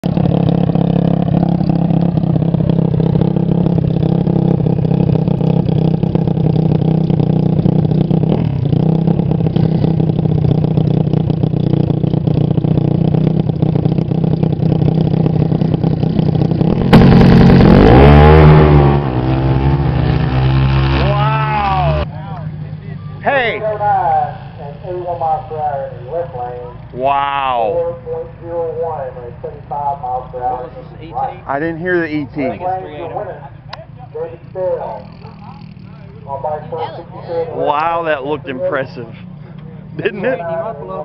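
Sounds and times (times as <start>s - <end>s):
motorcycle engine idling and revving: 0.0s - 41.0s.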